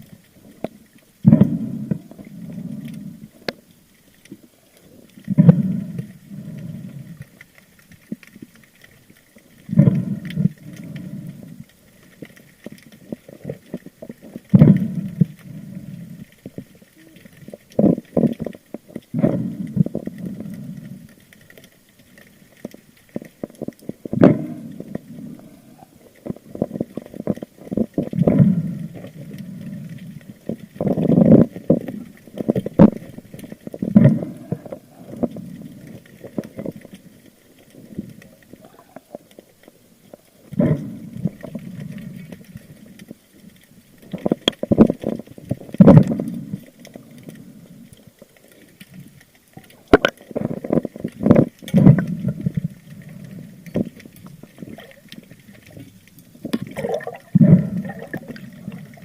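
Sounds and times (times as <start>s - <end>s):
muffled underwater surges and knocks: 0.0s - 59.0s.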